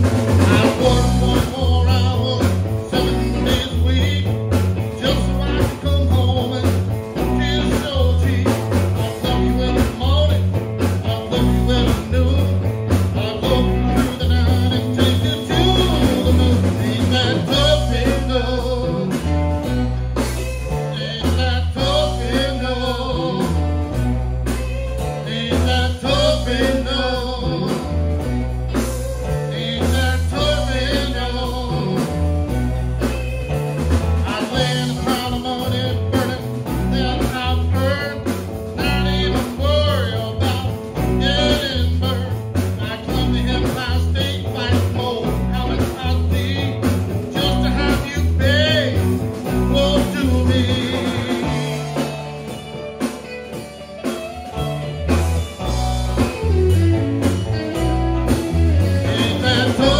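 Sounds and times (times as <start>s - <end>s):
electric bass guitar: 0.0s - 59.9s
electric guitars: 0.0s - 59.9s
man singing into a microphone: 0.4s - 19.8s, 20.6s - 23.9s, 24.7s - 28.1s, 29.1s - 32.6s, 34.2s - 52.3s, 58.7s - 59.9s.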